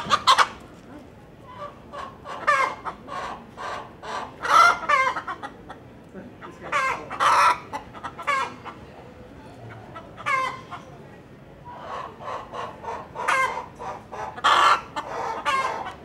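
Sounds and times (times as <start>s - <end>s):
chickens clucking: 0.0s - 11.0s, 11.6s - 16.0s.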